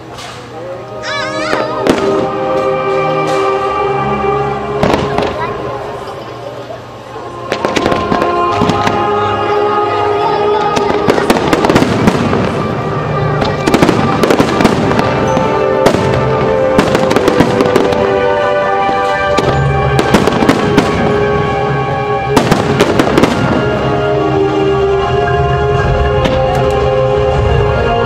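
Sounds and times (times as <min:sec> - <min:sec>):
fireworks bursting: 0:01.2 - 0:04.0, 0:04.6 - 0:06.1, 0:07.0 - 0:27.8.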